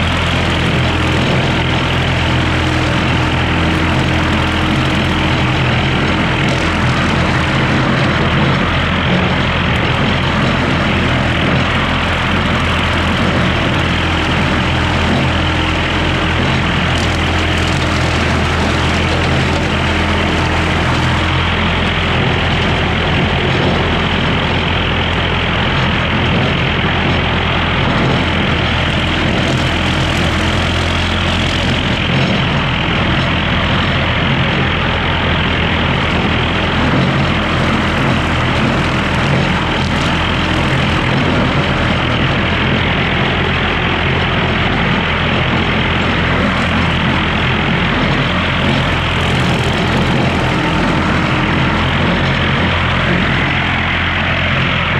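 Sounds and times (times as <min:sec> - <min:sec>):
diesel engine running: 0:00.0 - 0:54.9
machine noise: 0:00.0 - 0:54.9.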